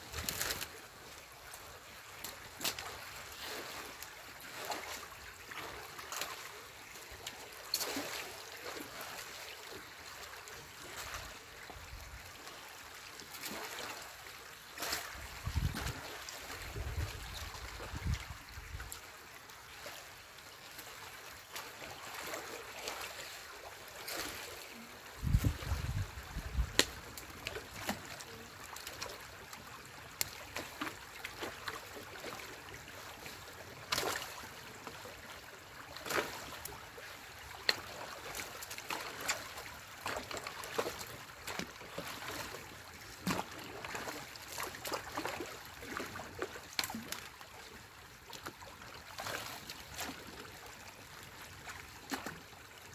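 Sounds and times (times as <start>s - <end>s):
splashes and knocks of sticks: 0.0s - 20.0s, 20.6s - 52.5s
stream water trickling: 0.0s - 52.9s.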